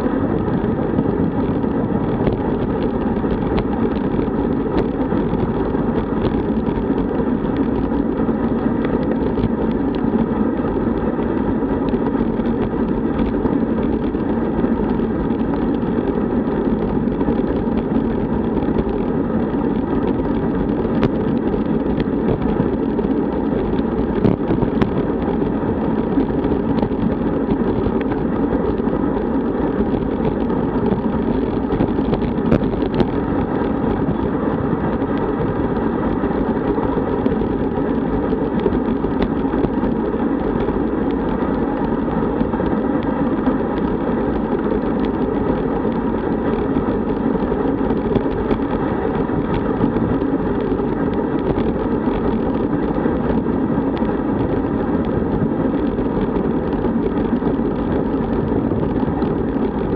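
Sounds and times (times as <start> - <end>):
tyre hum on asphalt: 0.0 - 59.9
wind rushing on microphone: 0.0 - 59.9.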